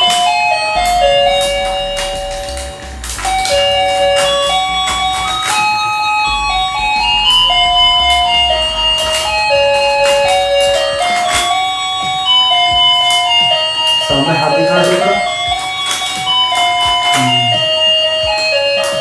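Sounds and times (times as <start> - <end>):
toy chiming electronic jingle: 0.0 - 19.0.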